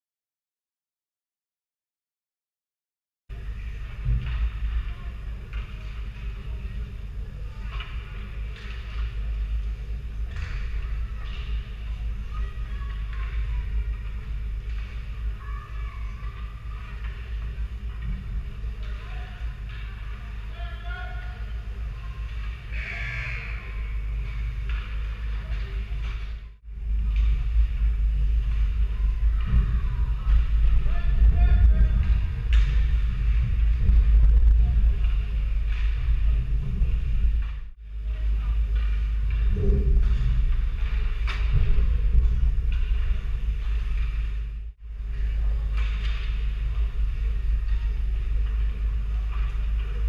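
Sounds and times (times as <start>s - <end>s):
steady low rumble: 3.3s - 50.0s.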